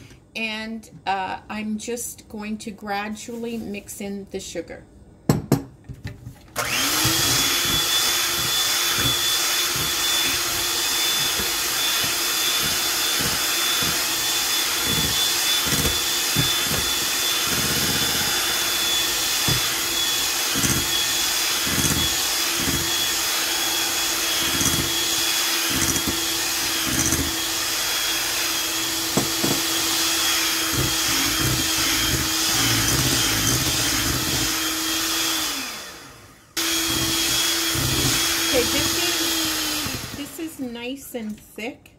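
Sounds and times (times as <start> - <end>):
electric hand mixer whining: 6.6 - 40.7.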